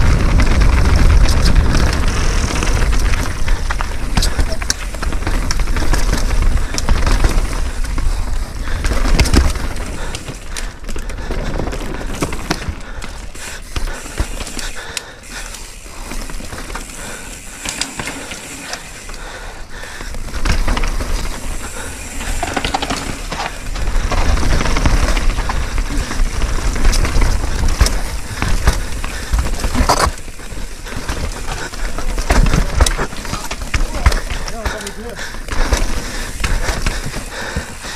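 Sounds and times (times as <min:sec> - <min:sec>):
bike rattling over rocks: 0:00.0 - 0:37.9
bicycle hub ratchet ticking: 0:00.1 - 0:37.9.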